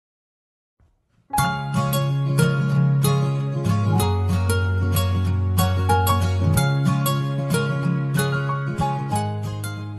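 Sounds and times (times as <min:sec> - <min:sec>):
plucked melody over held bass: 0:01.3 - 0:09.9.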